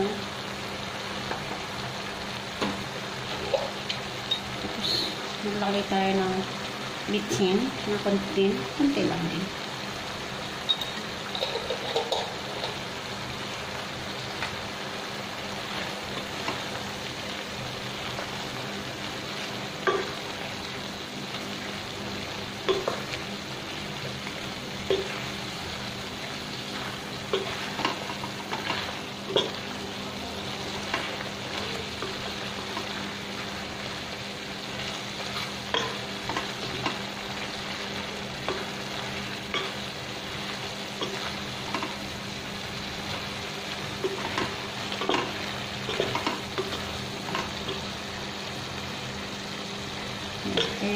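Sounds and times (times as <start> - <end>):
food sizzling in a pot: 0.0 - 50.9.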